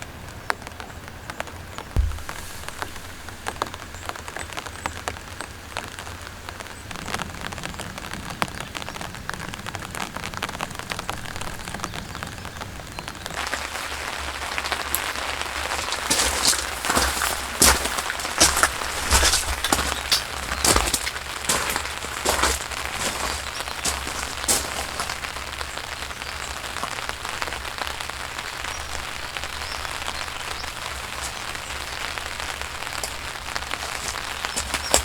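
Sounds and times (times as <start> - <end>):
rain falling: 0.0 - 35.0
raindrops ticking on surface: 0.0 - 35.0.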